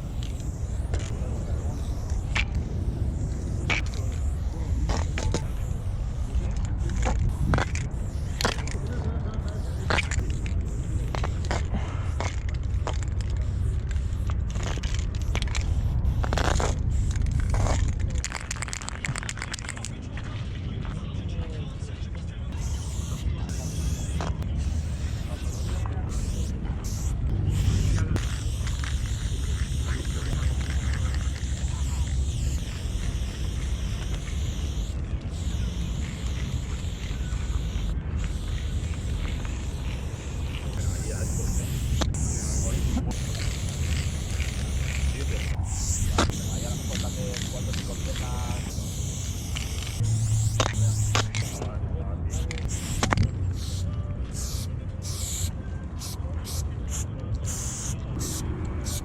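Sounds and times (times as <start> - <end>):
spray paint can hissing: 0.0 - 19.9, 22.5 - 51.7, 52.3 - 59.0.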